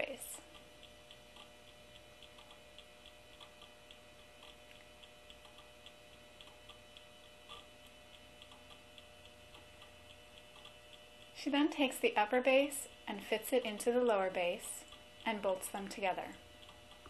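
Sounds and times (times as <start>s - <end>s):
light ticking: 0.0s - 17.0s.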